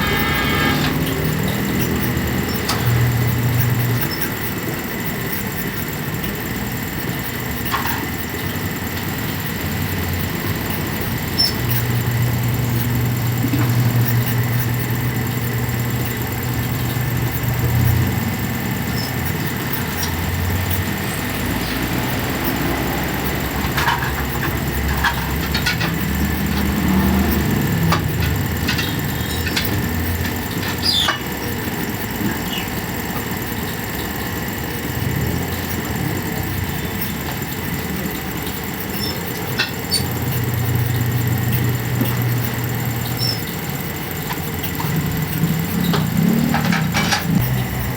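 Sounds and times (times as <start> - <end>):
engine idling: 0.0 - 47.9.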